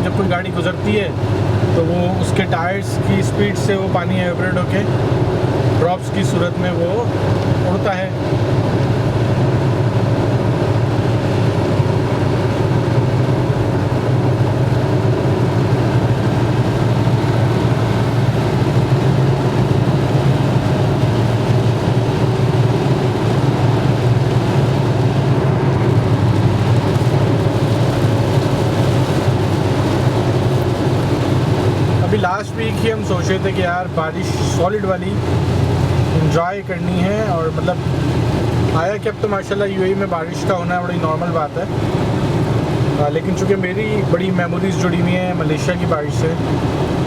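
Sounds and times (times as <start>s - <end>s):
low road drone: 0.0s - 47.0s
rain on a car: 0.0s - 47.0s.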